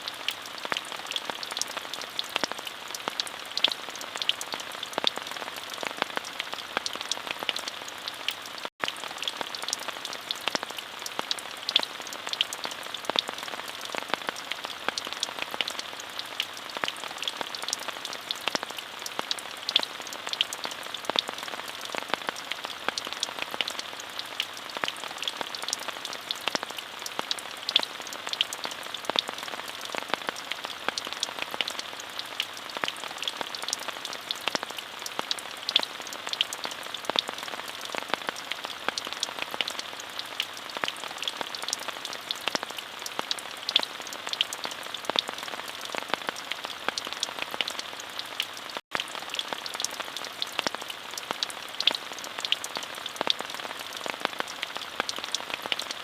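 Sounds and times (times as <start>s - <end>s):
raindrops ticking: 0.0s - 56.0s
steady rain: 0.0s - 56.0s.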